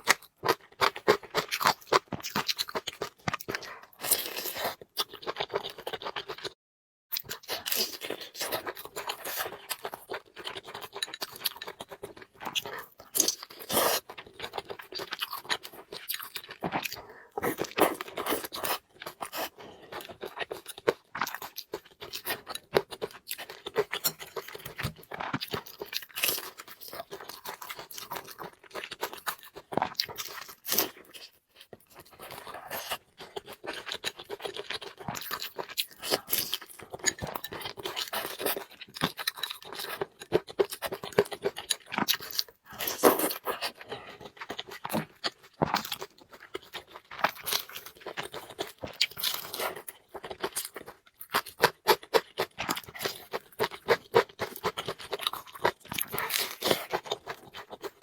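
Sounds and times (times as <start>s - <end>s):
wet chewing and smacking: 0.0s - 6.6s, 7.2s - 58.0s.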